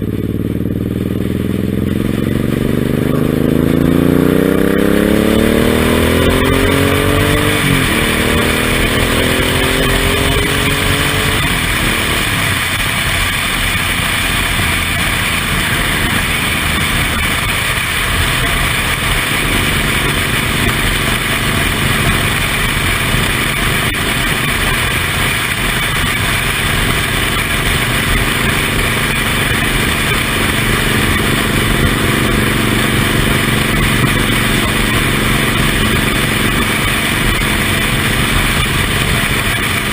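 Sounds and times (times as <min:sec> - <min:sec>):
motorcycle engine pulling hard: 0:00.0 - 0:39.9
loud rushing noise: 0:01.0 - 0:39.9.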